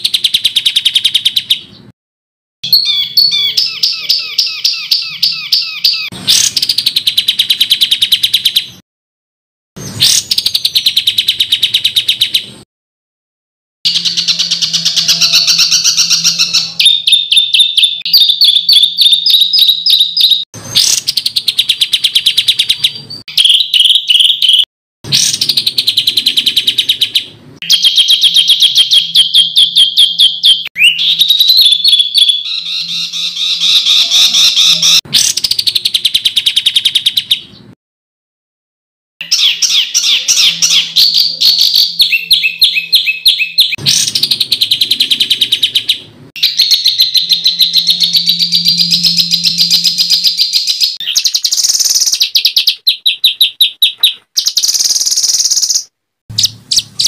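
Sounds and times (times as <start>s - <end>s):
songbird rapid chattering calls: 2.7s - 8.7s, 13.9s - 37.4s, 39.2s - 57.0s.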